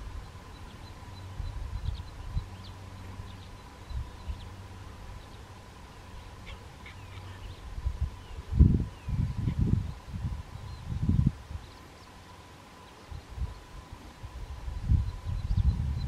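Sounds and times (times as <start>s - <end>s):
faint bird chirps: 0.1s - 13.8s, 14.7s - 16.0s.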